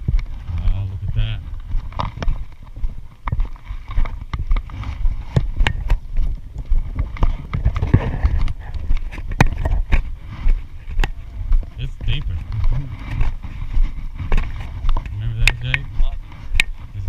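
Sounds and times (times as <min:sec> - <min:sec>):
irregular knocks and clunks: 0:00.0 - 0:17.0
low rumble: 0:00.0 - 0:17.0.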